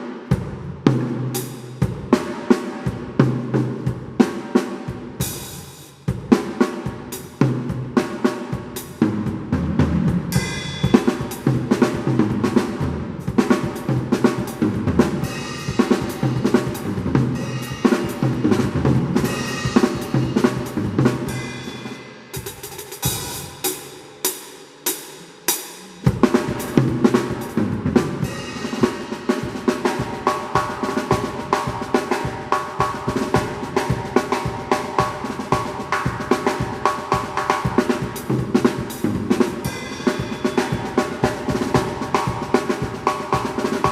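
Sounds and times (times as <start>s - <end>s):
drum kit groove: 0.0s - 43.9s.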